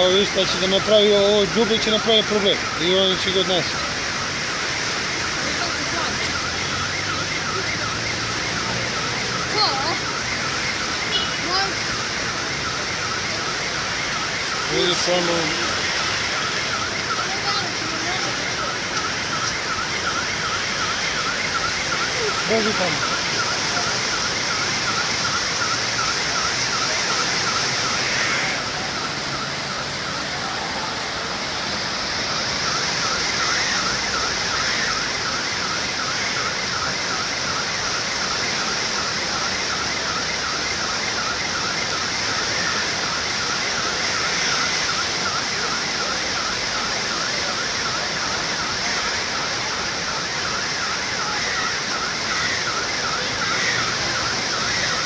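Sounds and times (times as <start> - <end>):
floodwater rushing: 0.0 - 55.0
high electronic alarm warbling: 0.0 - 55.0.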